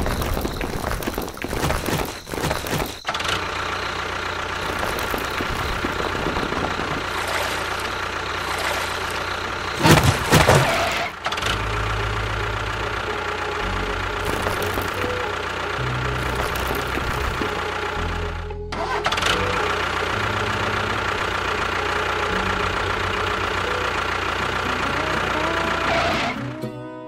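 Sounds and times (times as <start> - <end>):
model tractor engine humming: 0.0 - 26.6.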